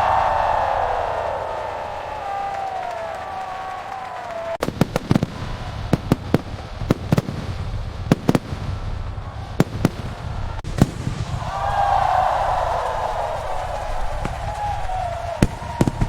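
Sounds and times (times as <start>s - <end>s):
fireworks bangs: 0.0s - 16.0s
low rumble of explosions: 0.0s - 16.0s.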